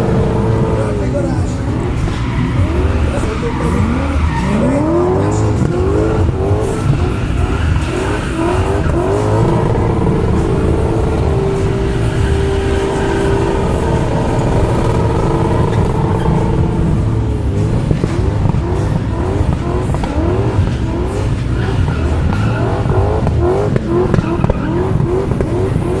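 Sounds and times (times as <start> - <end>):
car engine revving: 0.0 - 26.0
tyres skidding: 0.0 - 26.0.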